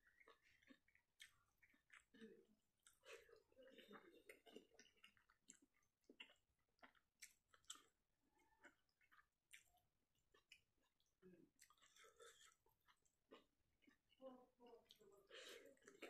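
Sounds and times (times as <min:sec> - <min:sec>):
close-up chewing: 0:00.0 - 0:14.2, 0:14.8 - 0:16.0.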